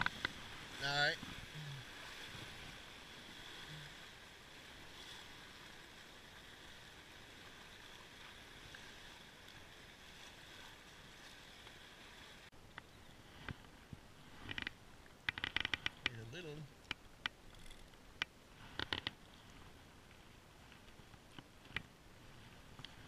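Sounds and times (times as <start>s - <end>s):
river water over rapid: 0.0s - 23.0s.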